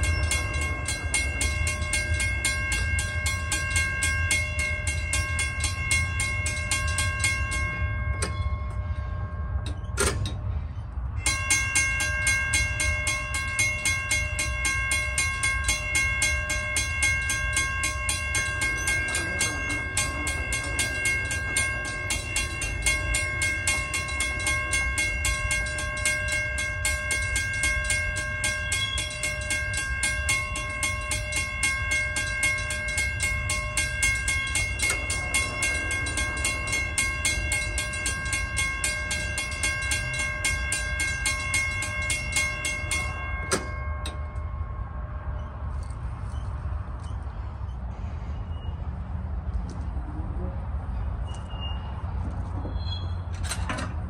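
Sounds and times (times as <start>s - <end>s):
railroad crossing bell ringing: 0.0s - 54.0s.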